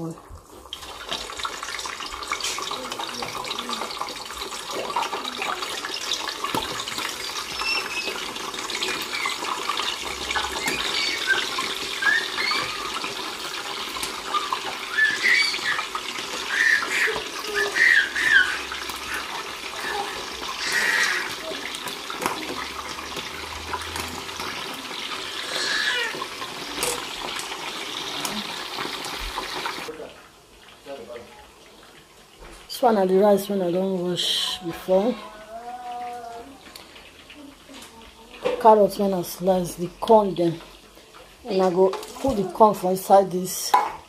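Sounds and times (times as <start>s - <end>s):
stock boiling and bubbling: 0.0s - 44.0s.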